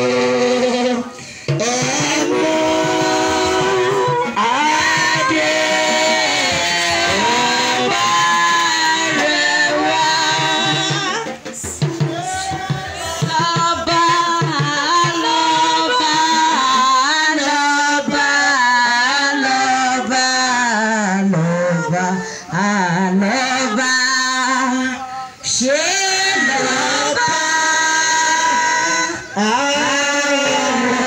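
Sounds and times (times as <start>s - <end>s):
congregation singing: 0.0s - 31.0s.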